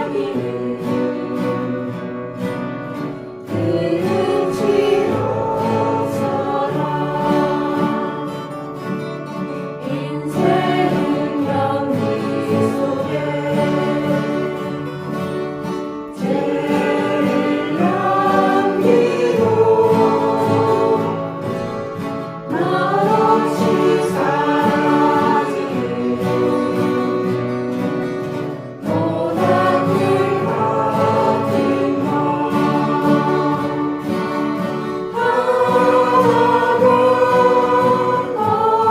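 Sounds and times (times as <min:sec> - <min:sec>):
acoustic guitars strumming: 0:00.0 - 0:38.9
group singing in unison: 0:00.0 - 0:38.9.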